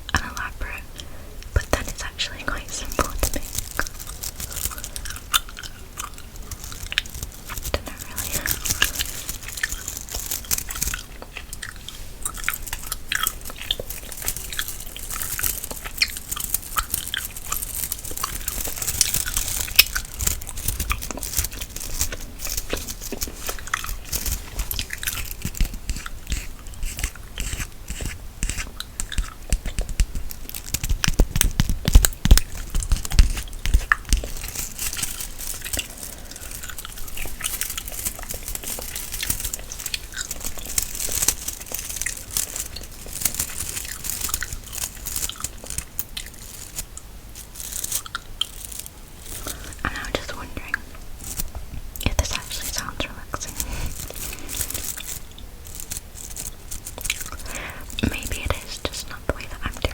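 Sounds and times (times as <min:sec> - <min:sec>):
gum chewing wet clicks: 0:00.0 - 0:47.1, 0:47.8 - 0:59.9.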